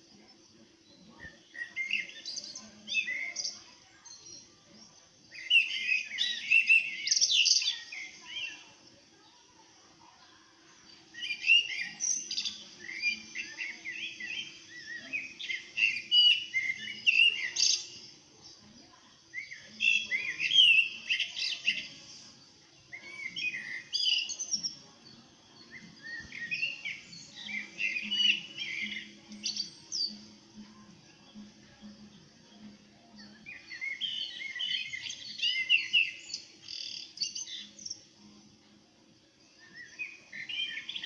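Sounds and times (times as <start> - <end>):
songbirds chirping through phone speaker: 0.0 - 41.0.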